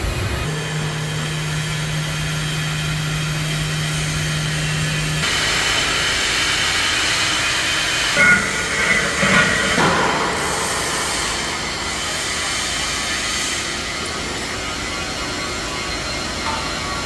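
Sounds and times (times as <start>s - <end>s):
hiss-like machinery noise: 0.0s - 17.0s
low machinery hum: 0.0s - 17.0s.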